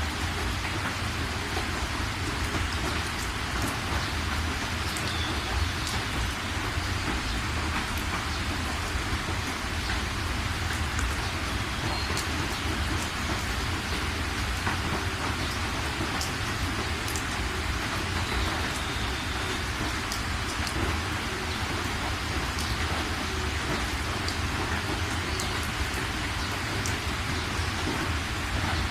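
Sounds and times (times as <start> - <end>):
rain drop ticks: 0.0 - 28.9
steady rain falling: 0.0 - 28.9.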